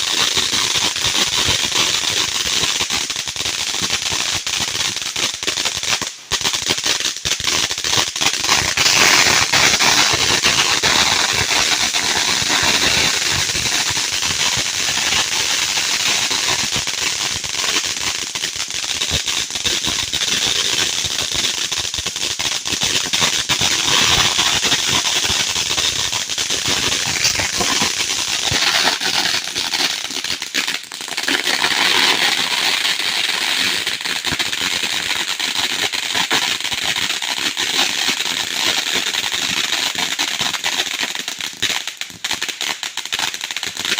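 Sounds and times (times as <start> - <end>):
fireworks crackling: 0.0 - 43.9.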